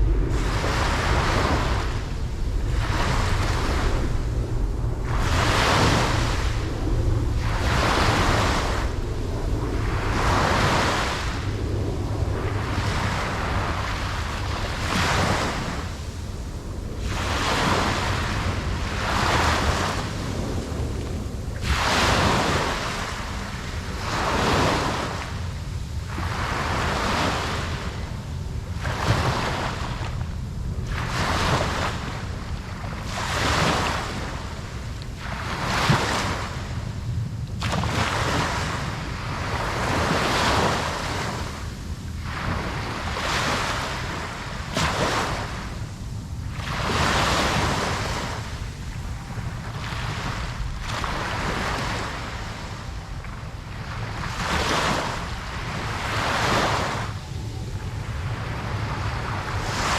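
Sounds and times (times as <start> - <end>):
low rumble of wind: 0.0 - 59.9
ocean waves breaking on beach: 0.0 - 59.9.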